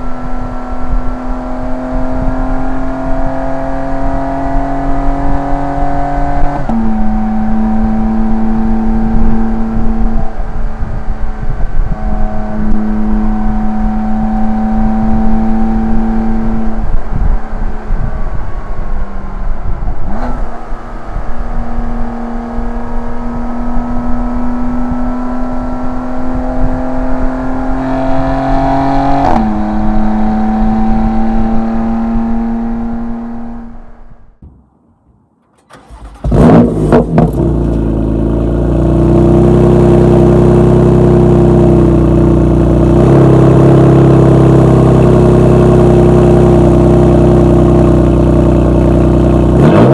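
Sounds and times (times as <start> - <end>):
car engine under driving load: 0.0 - 49.9.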